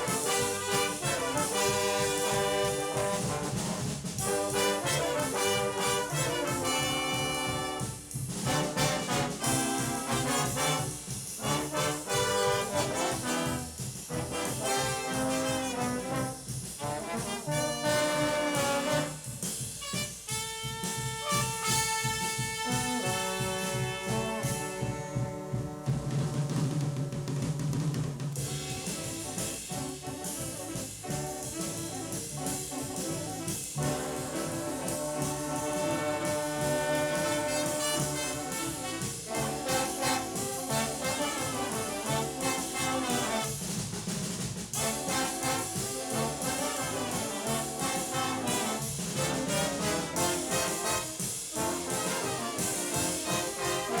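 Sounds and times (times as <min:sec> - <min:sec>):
brass section playing: 0:00.0 - 0:27.4, 0:28.4 - 0:54.0
big band jazz: 0:00.0 - 0:54.0.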